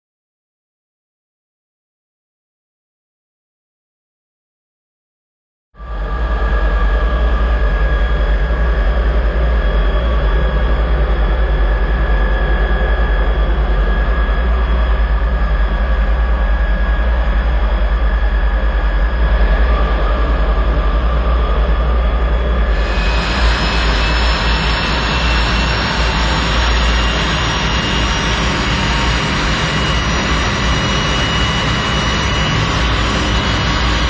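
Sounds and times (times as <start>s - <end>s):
aircraft engine running: 5.8s - 34.0s.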